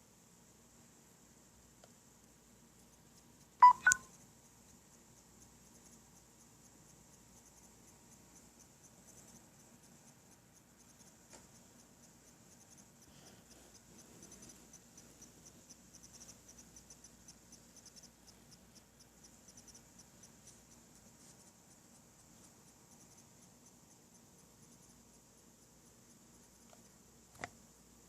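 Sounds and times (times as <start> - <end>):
faint high-pitched electronic whine: 0.0 - 28.0.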